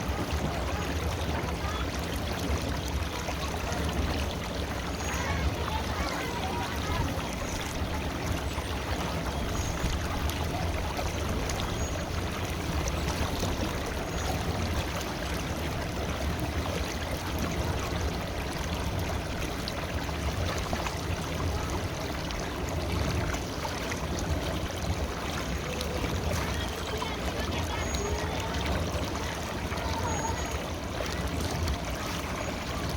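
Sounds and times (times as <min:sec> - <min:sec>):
river water flowing: 0:00.0 - 0:32.9.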